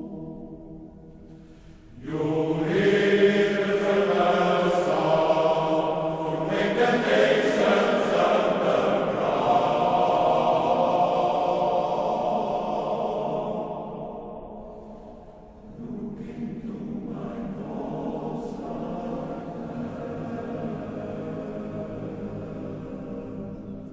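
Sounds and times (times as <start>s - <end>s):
male voice choir singing: 1.9s - 14.4s, 15.7s - 23.9s.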